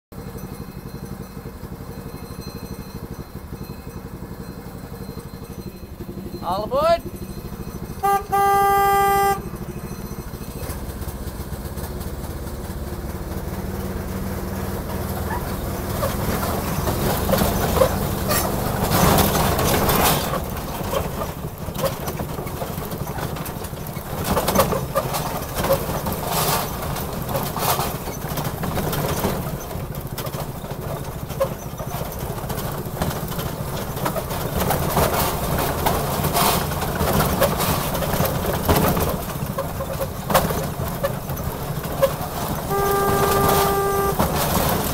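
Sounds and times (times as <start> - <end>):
small locomotive engine: 0.1 - 44.9
train rattling and clanking: 0.1 - 44.9
train jolts: 7.2 - 44.9.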